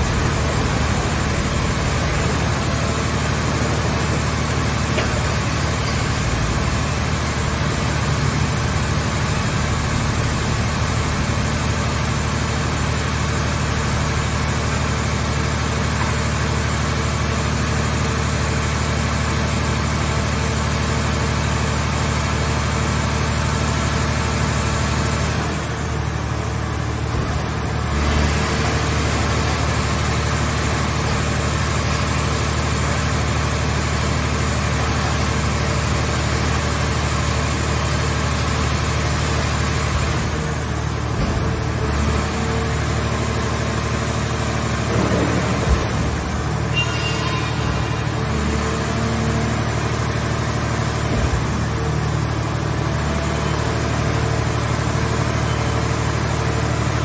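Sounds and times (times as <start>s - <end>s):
hydraulic baler humming: 0.0s - 57.0s.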